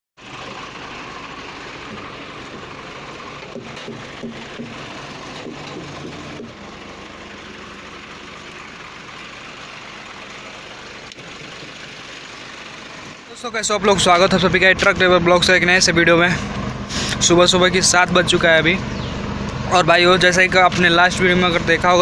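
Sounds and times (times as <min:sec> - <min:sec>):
diesel truck engine idling: 0:00.2 - 0:22.0.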